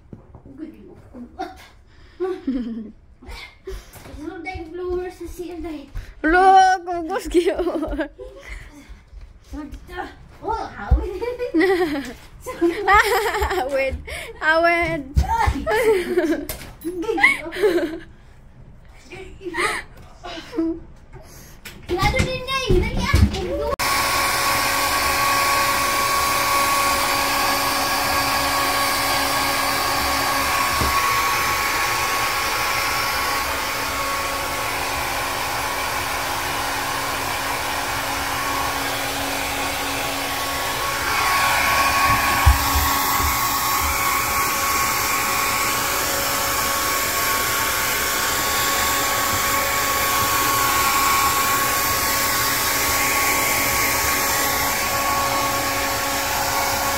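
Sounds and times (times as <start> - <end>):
hair dryer running: 2.3 - 9.0, 10.8 - 16.6, 23.5 - 56.9.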